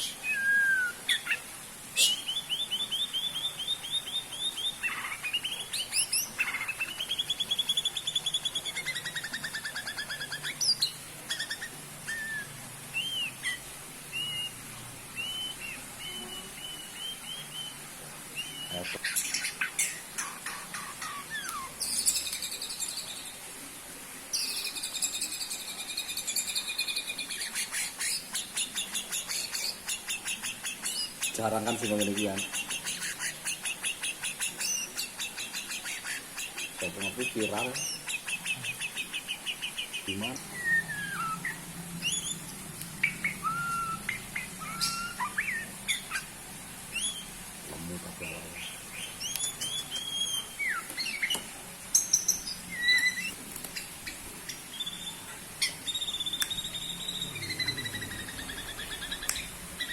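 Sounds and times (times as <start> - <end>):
songbird singing trills: 0.0 - 14.6, 15.2 - 23.3, 24.3 - 59.9
low steady hum: 0.0 - 59.9.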